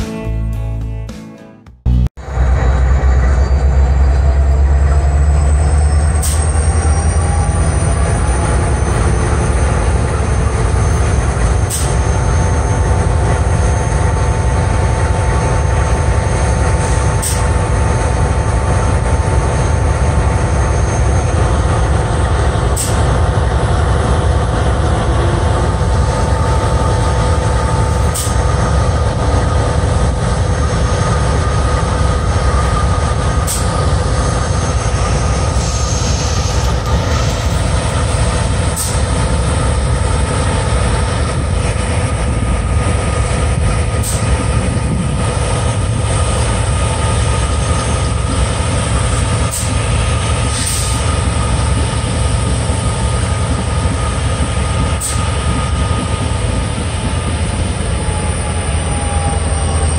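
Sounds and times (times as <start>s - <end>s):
diesel locomotive engine rumble: 1.8s - 59.9s
locomotive whines: 2.2s - 59.9s.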